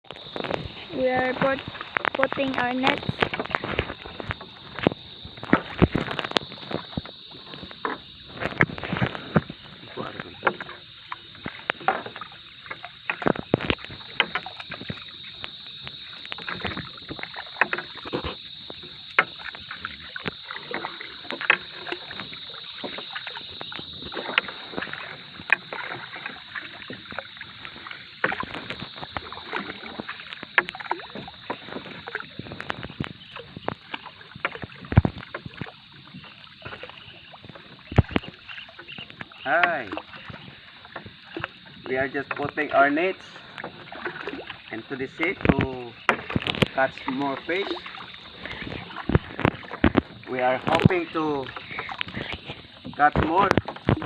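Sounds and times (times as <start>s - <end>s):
knocks and clatter on a boat: 0.0s - 54.0s
water splashing: 0.0s - 54.0s.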